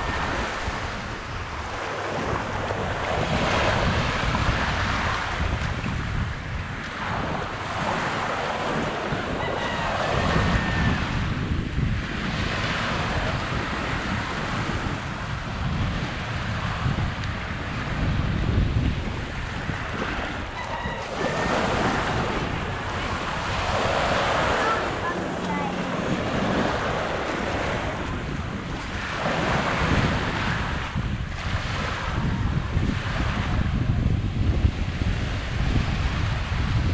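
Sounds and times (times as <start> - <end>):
small waves washing onto beach: 0.0 - 36.9
wind buffeting microphone: 0.0 - 36.9.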